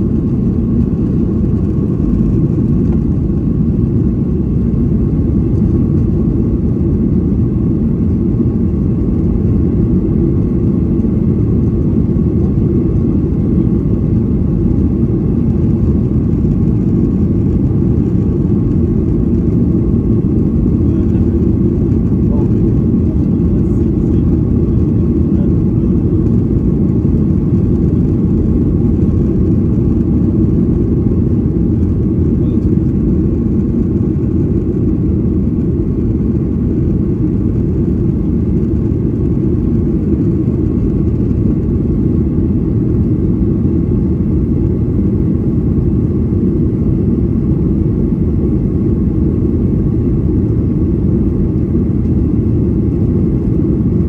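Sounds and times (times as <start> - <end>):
jet engines at climb power: 0.0 - 54.0.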